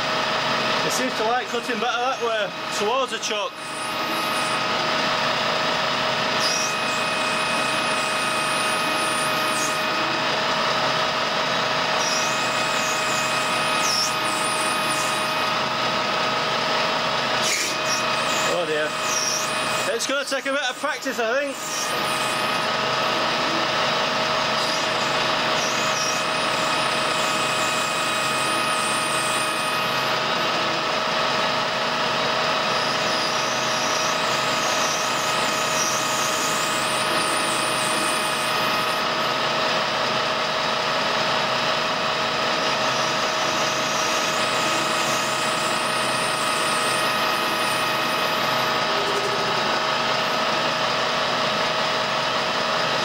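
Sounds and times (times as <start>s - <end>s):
metal lathe running with gear whine: 0.0s - 53.0s.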